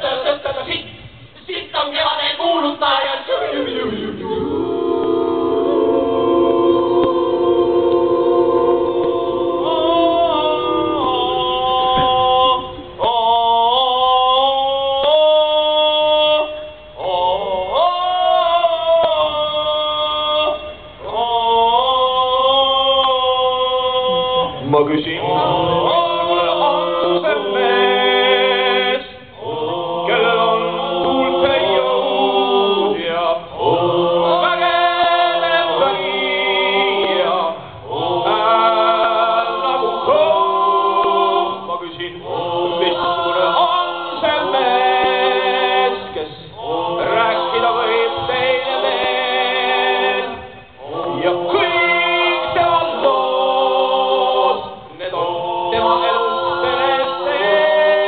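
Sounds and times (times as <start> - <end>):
group of voices singing: 0.0 - 58.0.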